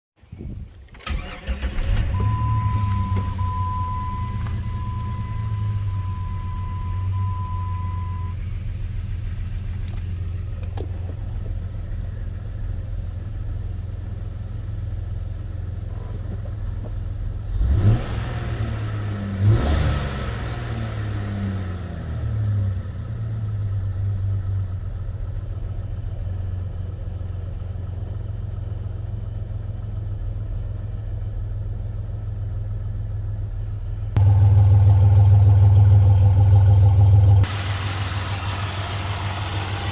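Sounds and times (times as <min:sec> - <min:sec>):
car engine idling and revving: 0:00.9 - 0:39.9.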